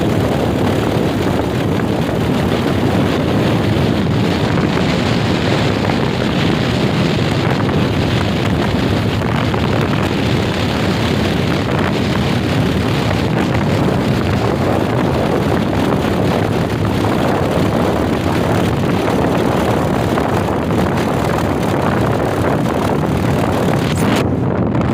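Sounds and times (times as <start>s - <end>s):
motorcycle engine running: 0.0s - 24.9s
wind rush on microphone: 0.0s - 24.9s.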